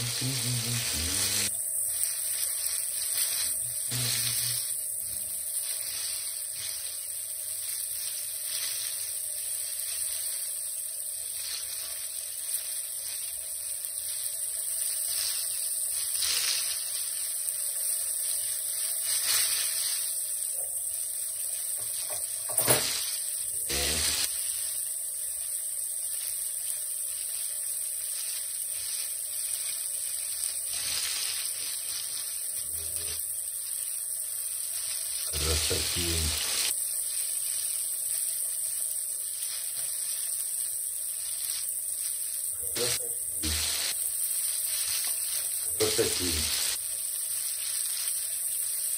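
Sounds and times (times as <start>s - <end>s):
fish frying in hot oil: 0.0s - 48.9s.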